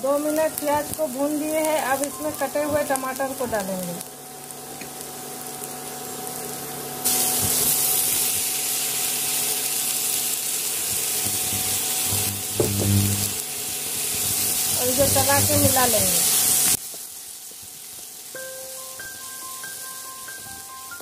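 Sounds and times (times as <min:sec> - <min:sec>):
loud steady frying hiss: 0:00.0 - 0:21.0
onions sizzling in oil: 0:00.0 - 0:21.0.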